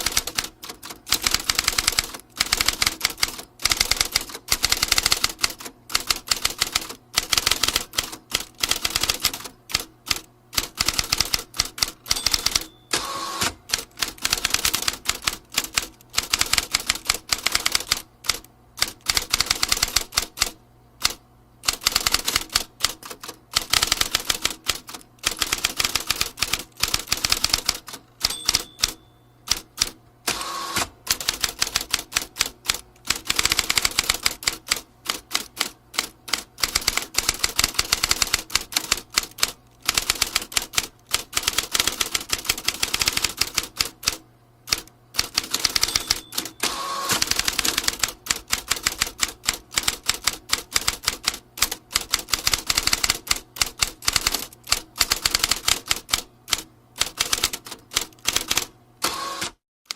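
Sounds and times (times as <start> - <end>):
typewriter keystroke clicks: 0.0 - 59.9.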